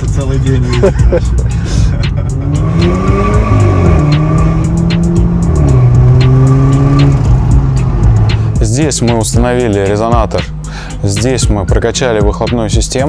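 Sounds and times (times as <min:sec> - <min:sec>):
car engine accelerating through gears: 0:00.7 - 0:11.3.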